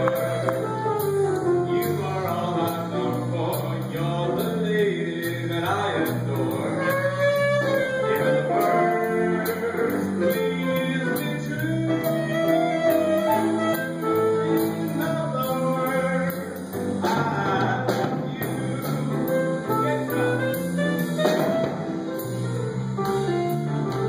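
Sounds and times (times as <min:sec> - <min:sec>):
person singing: 0:00.0 - 0:13.6, 0:14.6 - 0:21.4
small jazz band playing: 0:00.0 - 0:24.0.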